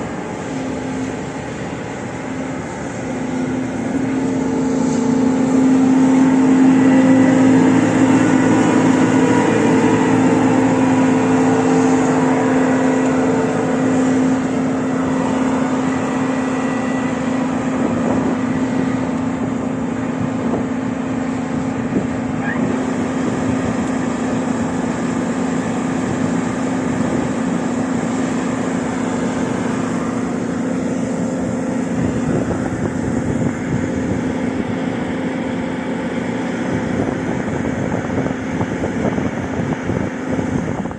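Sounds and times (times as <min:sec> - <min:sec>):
combine harvester drone: 0:00.0 - 0:40.9.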